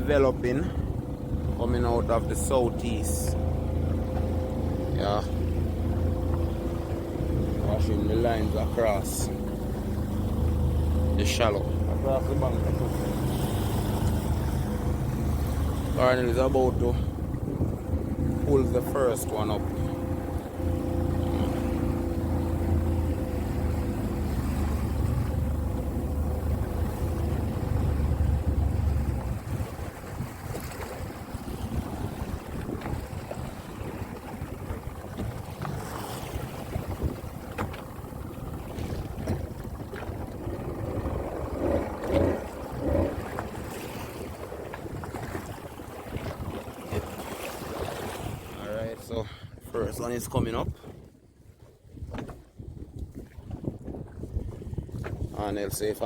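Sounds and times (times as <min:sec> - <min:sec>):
boat motor humming: 0:00.0 - 0:55.6
wind buffeting microphone: 0:00.0 - 0:56.0.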